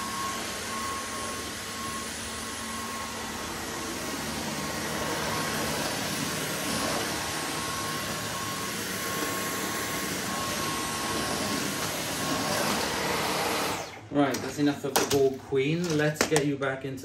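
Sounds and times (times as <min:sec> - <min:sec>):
stick vacuum running: 0:00.0 - 0:15.1.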